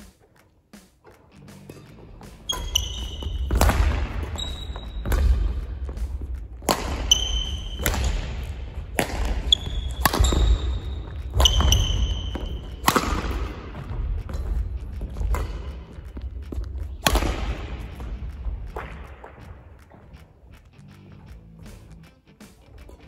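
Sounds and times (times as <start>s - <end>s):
shoe squeaks on court floor: 0.0s - 20.7s
racket hitting shuttlecock: 1.0s - 20.8s.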